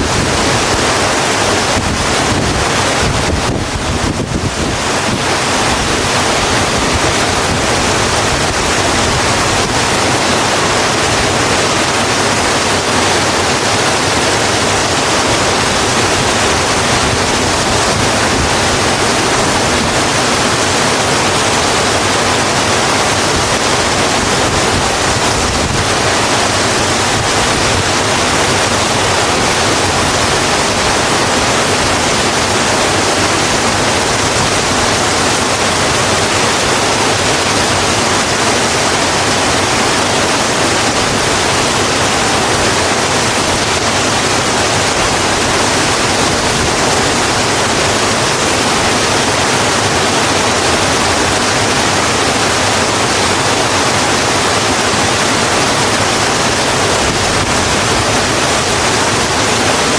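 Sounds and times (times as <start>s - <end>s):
rain falling on a road: 0.0s - 59.9s.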